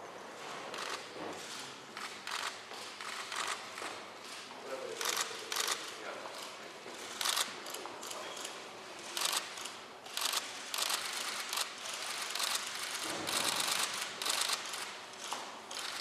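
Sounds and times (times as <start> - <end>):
camera shutters clicking: 0.7 - 4.4, 5.0 - 5.9, 7.0 - 8.5, 9.1 - 16.0.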